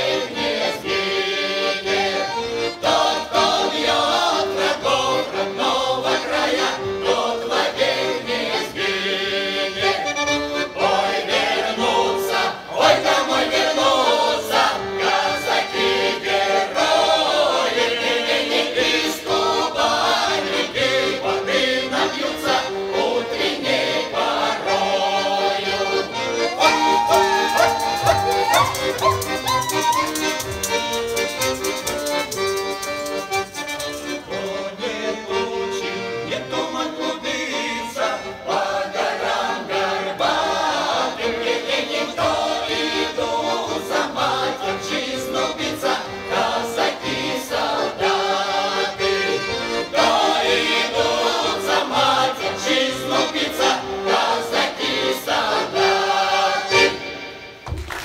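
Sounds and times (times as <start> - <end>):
mixed folk choir singing: 0.0 - 57.6
accordion: 0.0 - 57.8.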